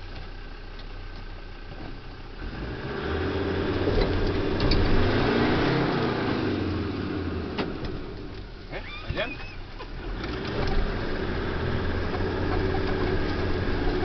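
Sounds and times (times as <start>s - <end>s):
truck engine from inside cab: 0.0s - 14.0s.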